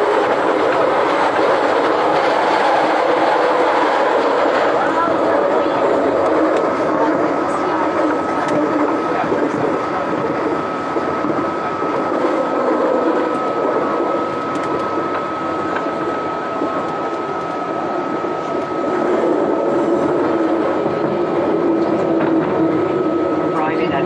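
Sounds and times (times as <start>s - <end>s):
high motor whine: 0.0s - 24.0s
train wheels rumbling on track: 0.0s - 24.0s.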